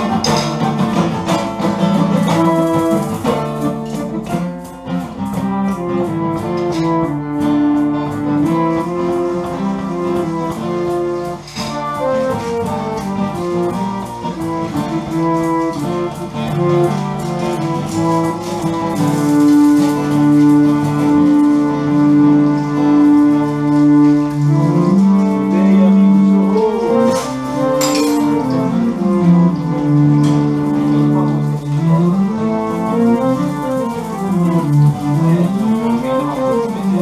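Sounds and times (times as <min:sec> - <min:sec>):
small band playing live: 0:00.0 - 0:37.0.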